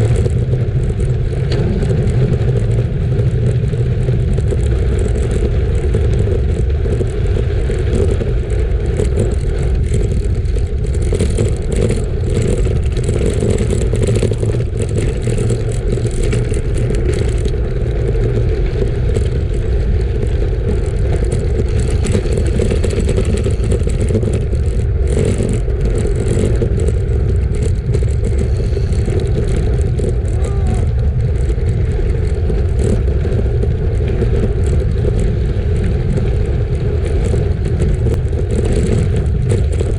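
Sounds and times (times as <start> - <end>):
bicycle tyres rolling: 0.0 - 39.9
small ticks and clatter: 0.0 - 39.9
wind buffeting microphone: 0.0 - 39.9.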